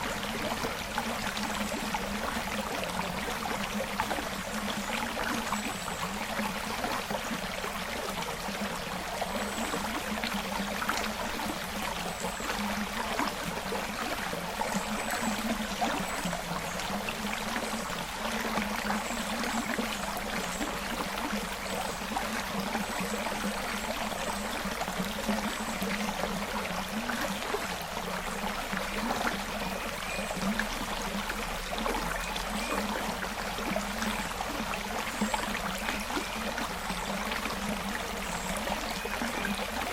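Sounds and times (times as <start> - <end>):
creek water rushing and trickling: 0.0 - 39.9.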